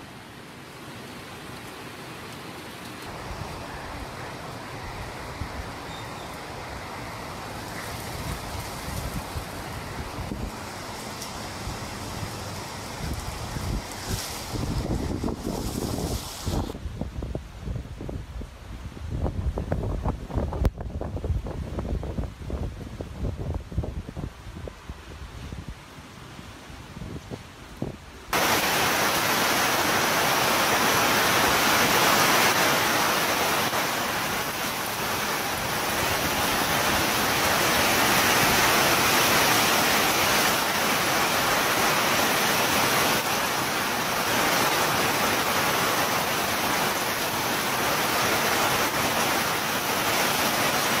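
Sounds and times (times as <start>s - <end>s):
driving rain and wind: 0.0s - 51.0s.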